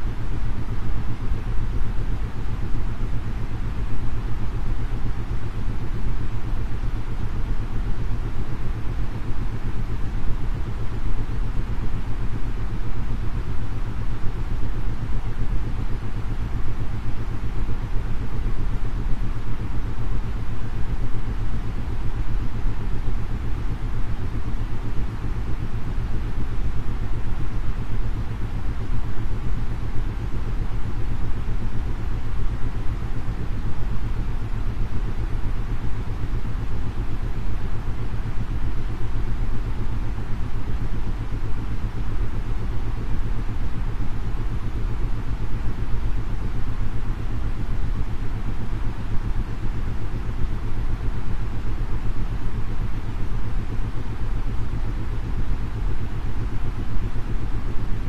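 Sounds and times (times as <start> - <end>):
white noise: 0.0 - 58.0.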